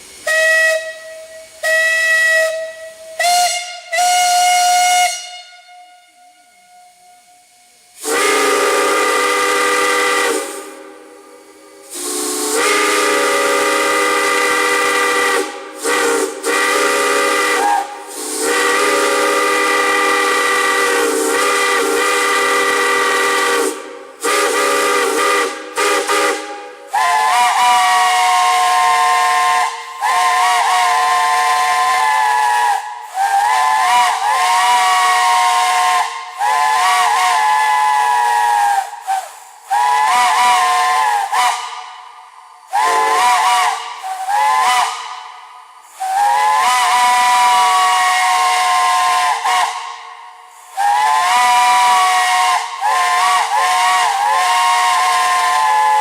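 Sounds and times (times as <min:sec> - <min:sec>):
steam hissing: 0:00.0 - 0:56.0
steam whistle blasts: 0:00.0 - 0:56.0.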